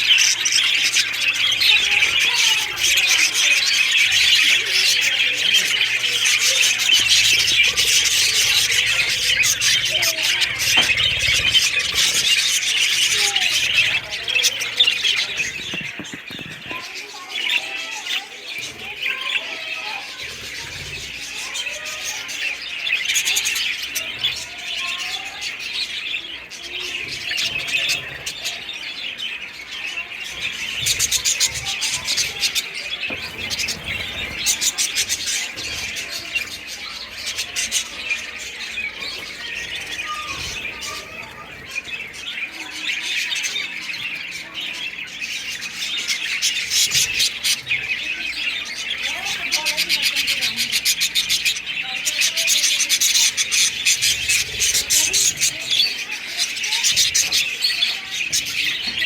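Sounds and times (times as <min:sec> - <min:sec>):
flock of birds chirping and squawking: 0:00.0 - 0:59.0.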